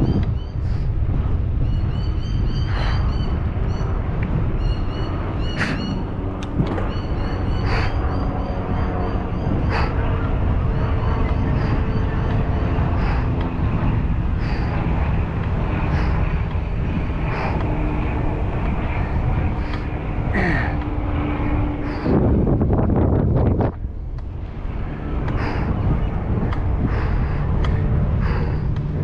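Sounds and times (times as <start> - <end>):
road vehicle noise: 0.0 - 29.0
wind on microphone: 0.0 - 29.0.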